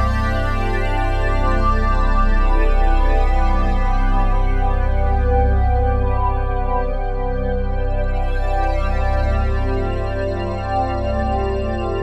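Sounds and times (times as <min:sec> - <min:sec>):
slow held chords music: 0:00.0 - 0:12.0.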